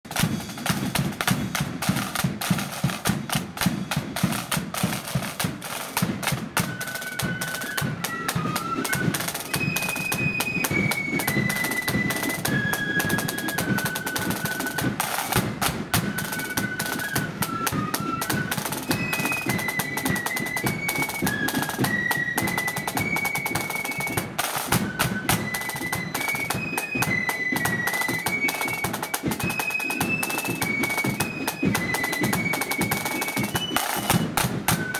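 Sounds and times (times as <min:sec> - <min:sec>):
side drums and bass drum: 0:00.0 - 0:34.9
flutes playing a tune: 0:00.1 - 0:34.9.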